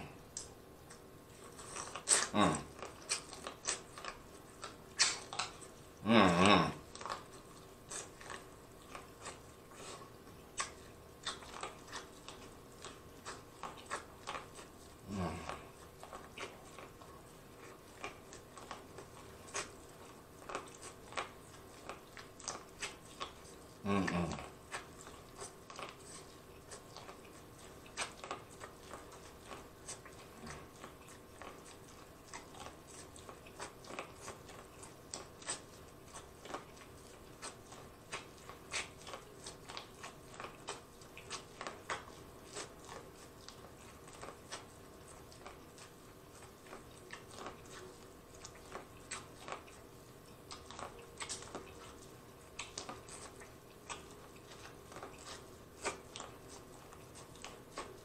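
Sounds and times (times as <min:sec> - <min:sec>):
crunching bites of corn: 0:00.3 - 0:58.0.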